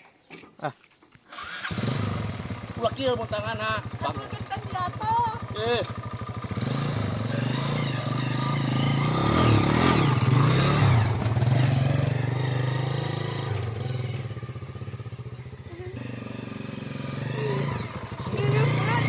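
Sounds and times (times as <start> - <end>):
small motorcycle engine pulling away: 1.3 - 19.0.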